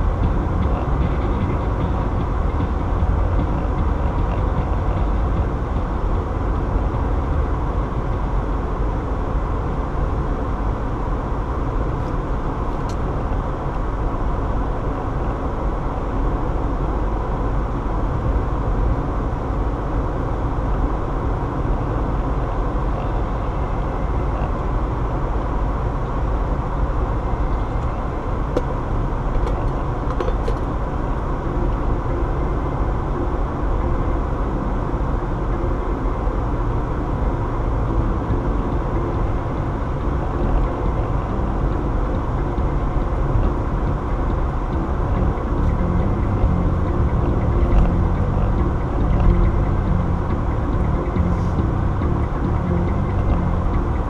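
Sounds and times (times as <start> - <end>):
car road noise inside cabin: 0.0 - 54.0.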